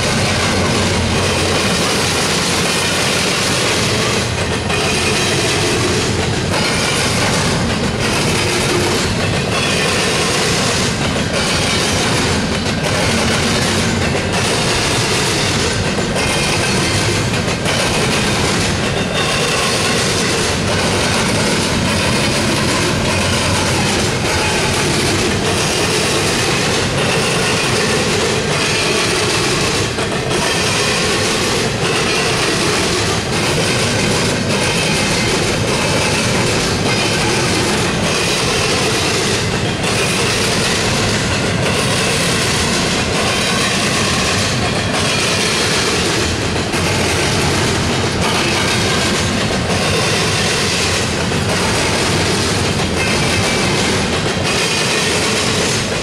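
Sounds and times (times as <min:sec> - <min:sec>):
diesel locomotive passing: 0:00.0 - 0:56.0
rhythmic clickety-clack of rail joints: 0:00.0 - 0:56.0
wheel and rail noise: 0:00.0 - 0:56.0.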